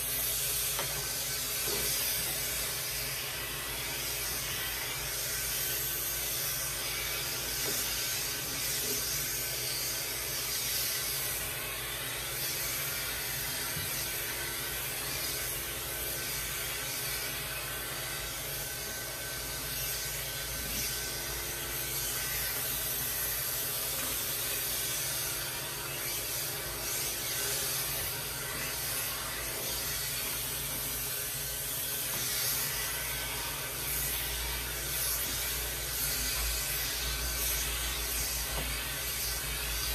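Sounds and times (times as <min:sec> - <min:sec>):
electric clippers with vacuum running: 0:00.0 - 0:39.9.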